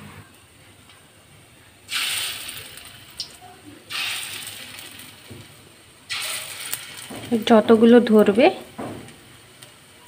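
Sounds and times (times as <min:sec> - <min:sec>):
hot oil sizzling: 0:00.5 - 0:10.0.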